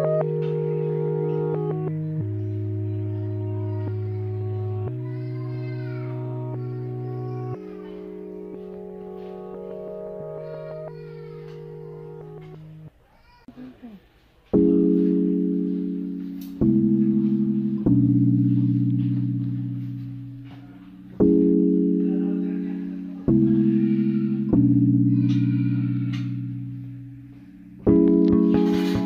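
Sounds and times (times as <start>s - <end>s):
slow sustained music chords: 0.0s - 12.9s, 14.6s - 29.0s.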